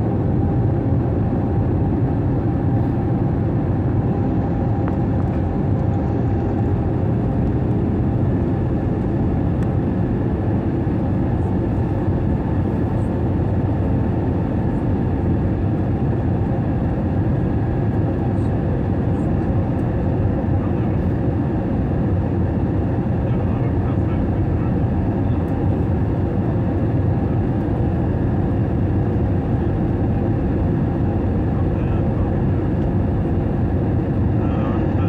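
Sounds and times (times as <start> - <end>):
aircraft cabin engine rumble: 0.0 - 35.0.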